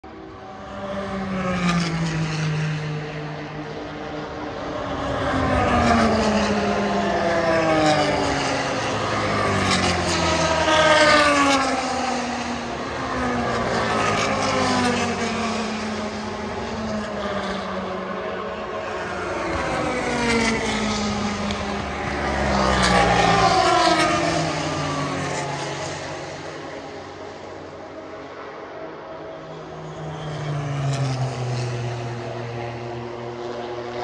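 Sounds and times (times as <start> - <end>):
racing cars passing at speed: 0.1 - 34.0.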